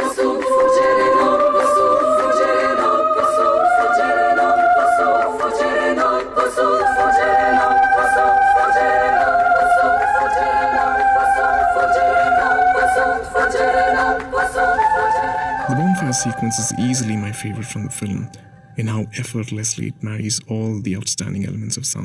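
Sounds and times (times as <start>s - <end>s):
women's choir chanting: 0.0s - 19.2s.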